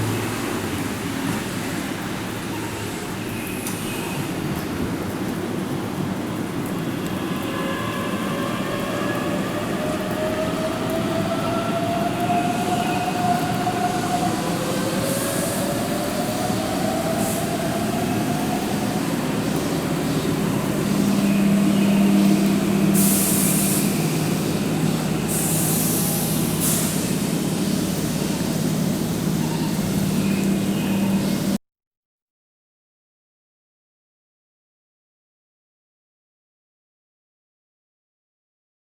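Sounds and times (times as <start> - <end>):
train rolling noise: 0.0 - 31.6.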